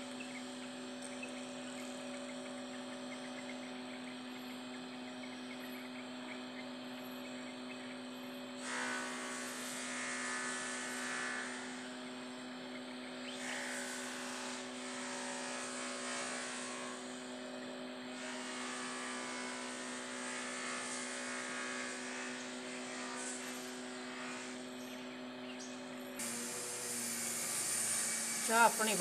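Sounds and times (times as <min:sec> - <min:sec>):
mechanical drone with hum: 0:00.0 - 0:29.0.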